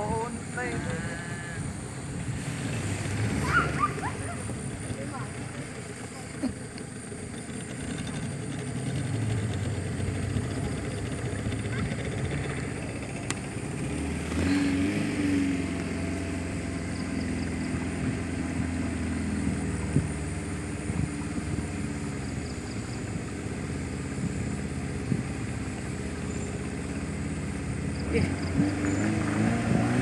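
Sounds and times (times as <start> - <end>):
outboard motor running: 0.0 - 30.0
water rushing along hull: 0.0 - 30.0.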